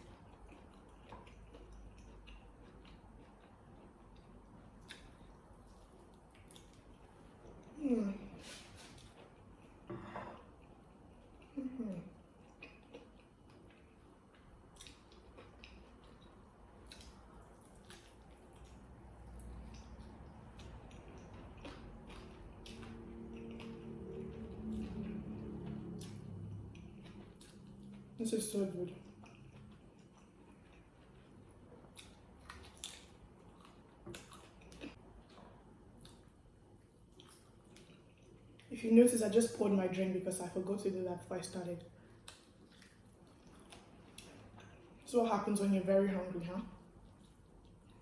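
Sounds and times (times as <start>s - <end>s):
person chewing: 0.0s - 28.2s, 29.0s - 38.7s, 42.0s - 45.1s, 46.8s - 48.0s.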